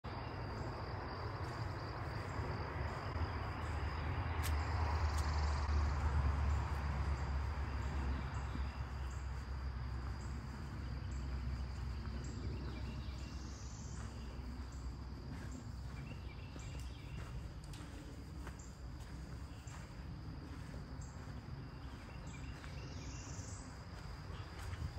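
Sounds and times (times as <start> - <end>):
insects droning: 0.0 - 24.9
wind rumble on microphone: 0.4 - 24.9.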